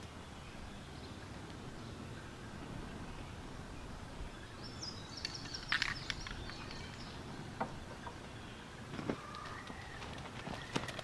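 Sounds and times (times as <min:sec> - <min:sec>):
outdoor background noise: 0:00.0 - 0:11.0
bird calling: 0:01.8 - 0:11.0.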